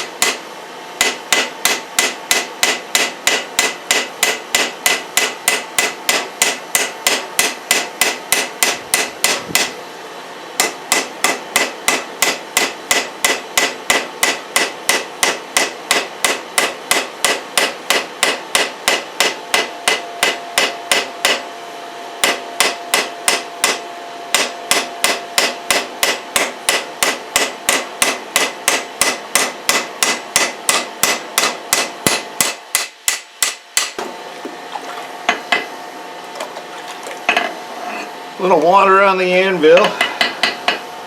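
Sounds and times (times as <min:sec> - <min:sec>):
hammer striking steel on anvil: 0:00.0 - 0:09.8, 0:10.6 - 0:21.5, 0:22.2 - 0:34.1, 0:39.7 - 0:40.9.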